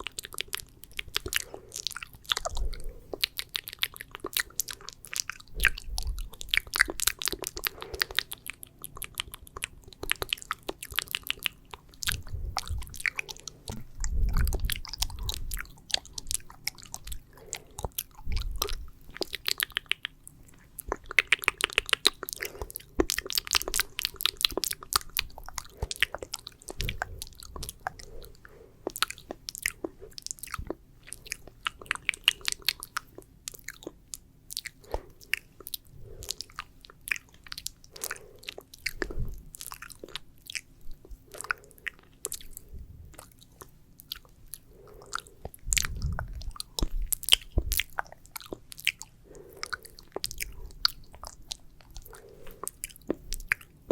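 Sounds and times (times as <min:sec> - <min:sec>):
wet mouth clicks and smacks: 0:00.0 - 0:53.9.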